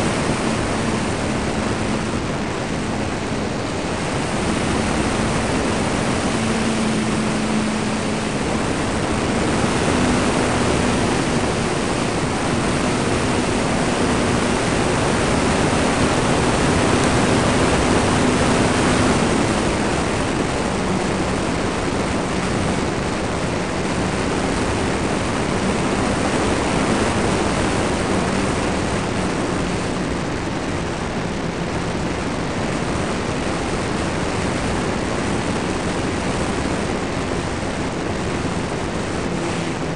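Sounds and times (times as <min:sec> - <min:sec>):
electric motor and propeller humming: 0:00.0 - 0:39.9
wind rush: 0:00.0 - 0:39.9.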